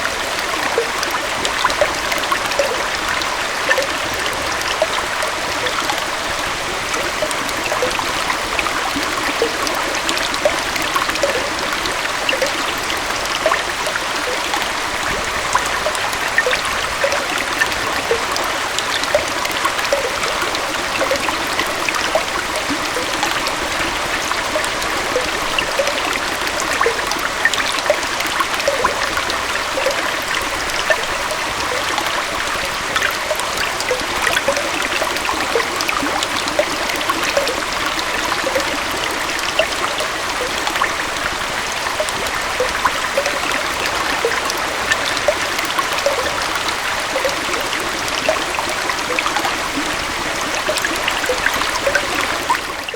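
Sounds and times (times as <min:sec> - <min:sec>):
water rushing and gurgling: 0:00.0 - 0:52.9.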